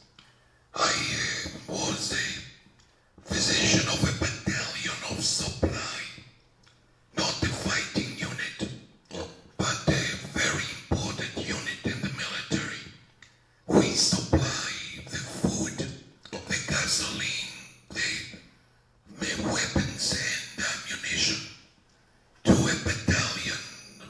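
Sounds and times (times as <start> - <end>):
man lecturing into microphone: 0.8 - 2.6, 3.2 - 6.3, 7.1 - 13.0, 13.7 - 18.4, 19.1 - 21.6, 22.5 - 24.0.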